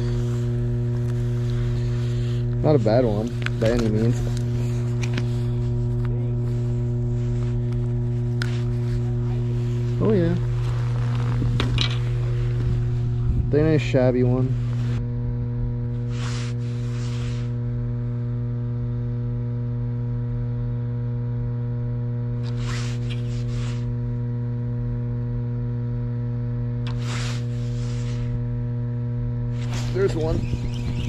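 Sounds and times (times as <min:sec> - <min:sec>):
machinery hum: 0:00.0 - 0:21.5, 0:22.2 - 0:31.0.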